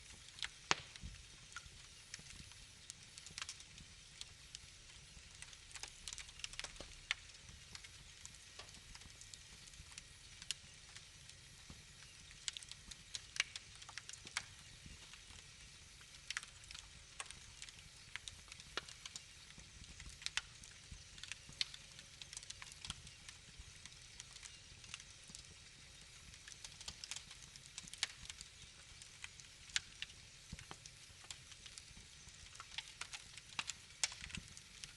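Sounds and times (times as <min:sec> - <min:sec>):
low rumble of flames: 0:00.0 - 0:34.9
wood fire crackling: 0:00.0 - 0:34.9.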